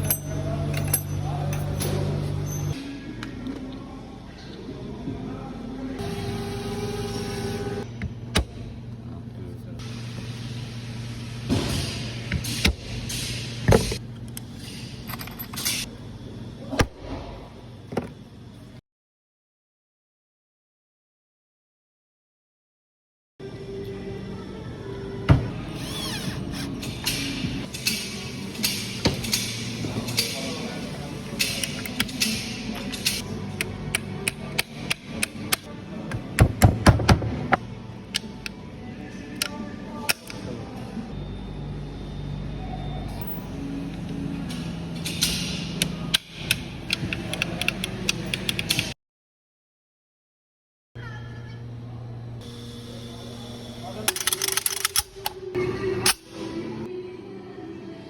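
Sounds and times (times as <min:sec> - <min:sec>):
factory machinery hum: 0:00.0 - 0:18.8, 0:23.4 - 0:49.0, 0:51.0 - 0:58.0.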